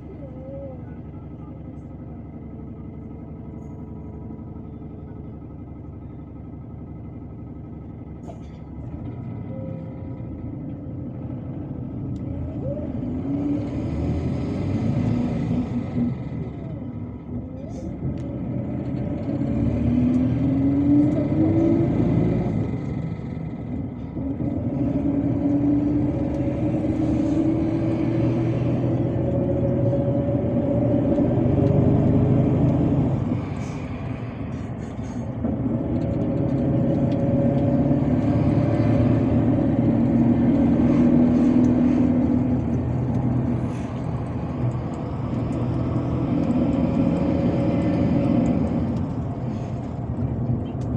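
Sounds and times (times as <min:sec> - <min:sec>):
bus engine accelerating: 0:00.0 - 0:50.9.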